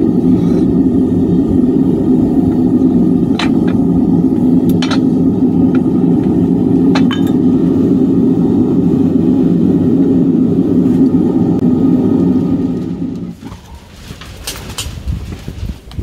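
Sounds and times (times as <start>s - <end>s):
loud steady low rumble: 0.0s - 16.0s.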